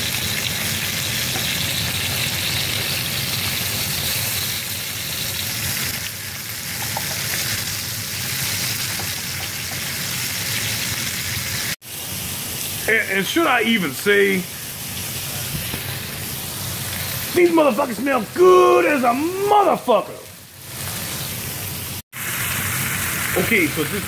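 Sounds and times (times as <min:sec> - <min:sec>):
pork chops sizzling in oil: 0:00.0 - 0:24.0.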